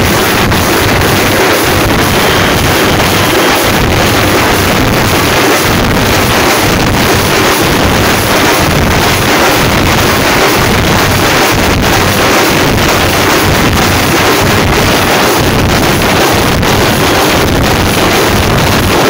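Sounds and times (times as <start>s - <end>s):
drums beaten with sticks: 0.0s - 19.0s.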